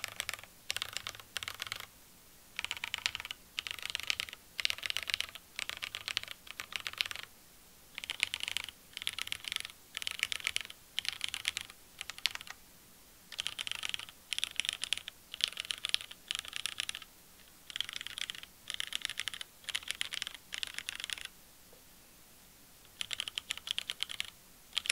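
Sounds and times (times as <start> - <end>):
mechanical keyboard typing: 0.0 - 1.9, 2.6 - 7.3, 8.0 - 12.6, 13.3 - 21.3, 22.9 - 24.9.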